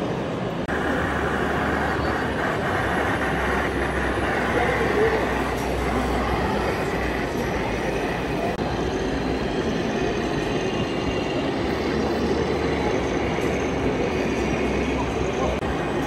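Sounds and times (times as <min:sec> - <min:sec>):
crowd hubbub: 0:00.0 - 0:16.0.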